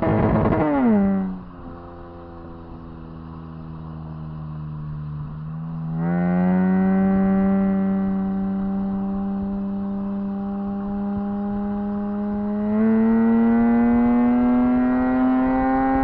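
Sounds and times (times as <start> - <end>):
car engine running: 0.0 - 14.3
exhaust drone: 0.0 - 16.0.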